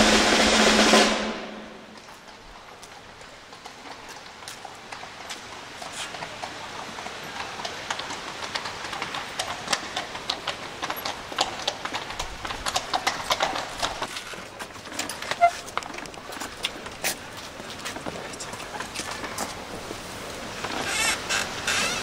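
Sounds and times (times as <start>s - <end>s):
horse hooves clip-clopping on pavement: 0.0s - 22.0s.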